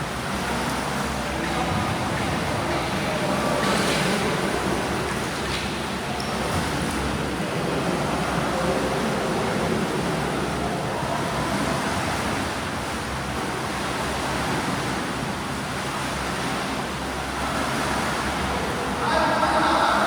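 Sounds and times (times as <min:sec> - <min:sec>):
swimmers splashing in pool: 0:00.0 - 0:20.0.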